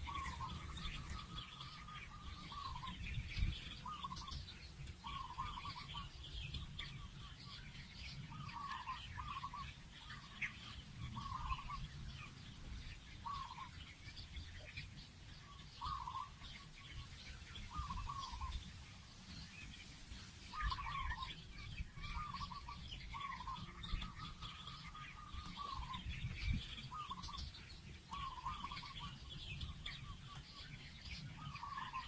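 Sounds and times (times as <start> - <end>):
high bird chirps: 0.0 - 32.0.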